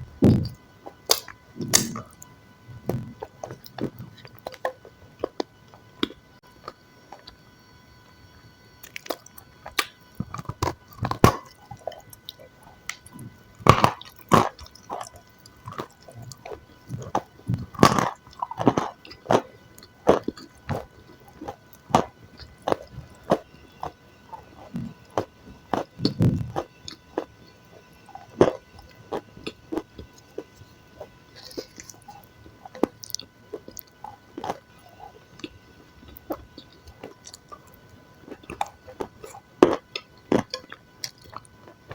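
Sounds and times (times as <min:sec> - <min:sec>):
close chewing and biting food: 0:00.0 - 0:07.4, 0:08.8 - 0:41.9
food crunching: 0:00.0 - 0:07.4, 0:08.8 - 0:41.9.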